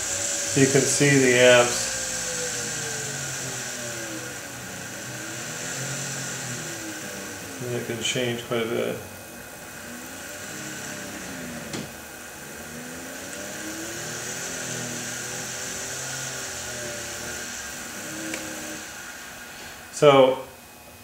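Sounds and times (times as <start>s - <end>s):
small motor whirring: 0.0s - 21.0s.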